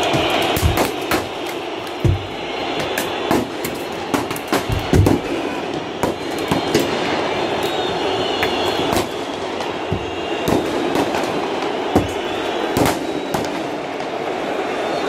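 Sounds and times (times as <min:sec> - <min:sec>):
sharp bangs: 0:00.0 - 0:13.8
stadium crowd roaring: 0:00.0 - 0:15.0.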